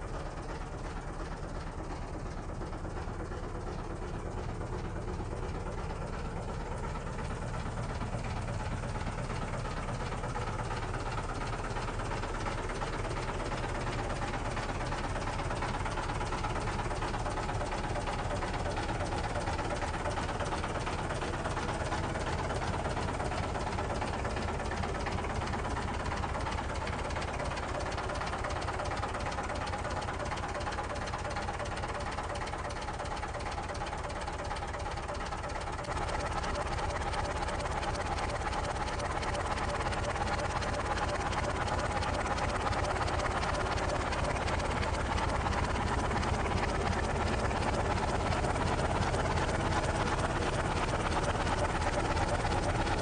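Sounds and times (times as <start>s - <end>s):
tractor diesel engine clatter: 0.0s - 53.0s.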